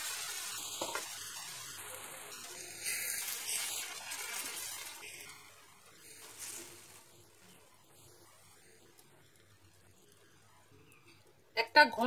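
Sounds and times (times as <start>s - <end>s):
paste sizzling in a pan: 0.0s - 11.5s
spatula stirring: 0.1s - 11.1s.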